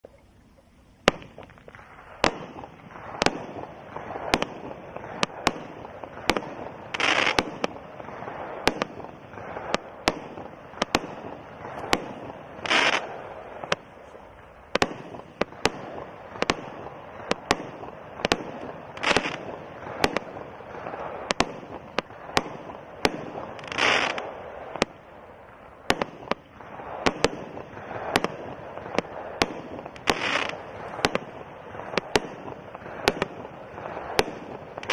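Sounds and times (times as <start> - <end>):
fireworks hissing burst: 0.5 - 34.9
fireworks bangs: 1.0 - 34.9.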